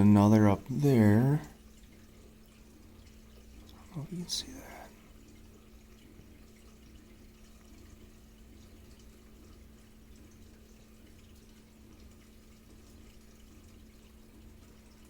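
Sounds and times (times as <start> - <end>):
pump humming: 0.0 - 15.0
water trickling and dripping: 0.0 - 15.0.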